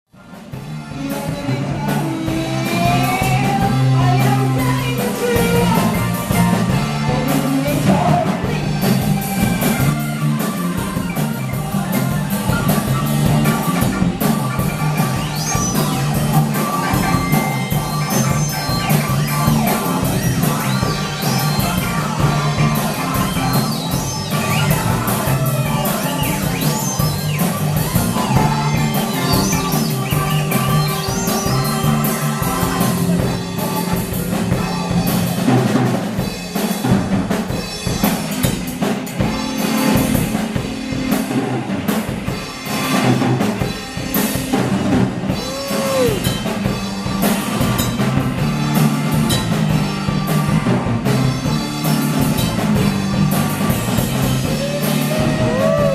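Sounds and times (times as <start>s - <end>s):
band playing live: 0.1s - 55.9s.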